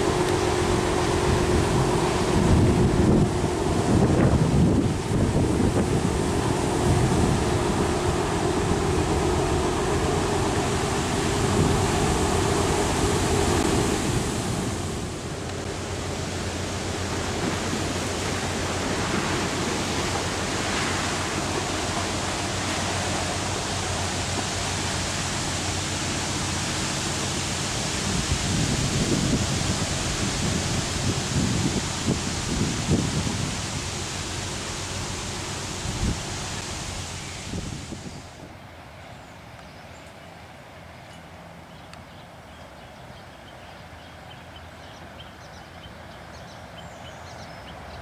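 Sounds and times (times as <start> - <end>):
wind on microphone: 0.0 - 38.6
ship diesel engines droning: 0.0 - 48.0.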